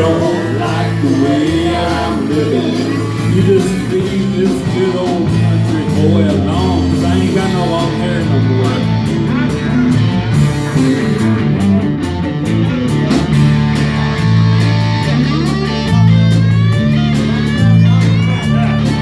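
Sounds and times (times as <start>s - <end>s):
lead guitar bending notes: 0.0s - 19.0s.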